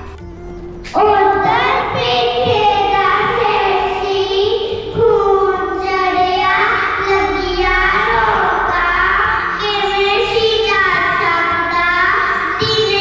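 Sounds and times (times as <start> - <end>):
boys singing into microphone: 1.0 - 13.0.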